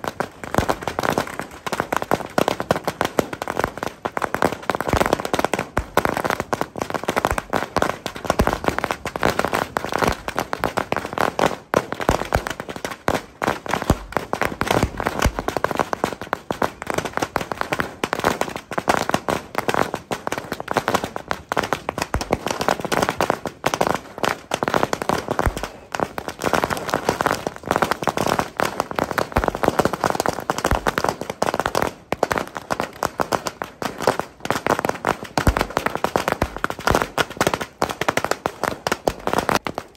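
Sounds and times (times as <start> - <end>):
firecrackers banging rapidly: 0.0 - 39.9.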